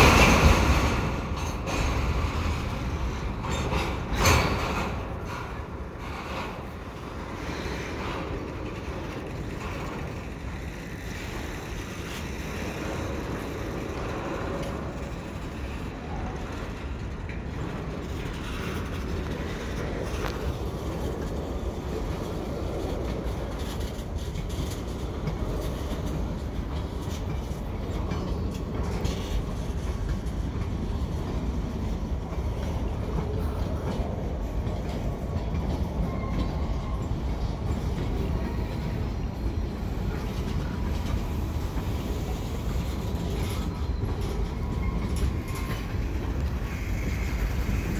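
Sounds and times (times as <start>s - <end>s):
steel wheels rumbling on rail: 0.0s - 47.9s.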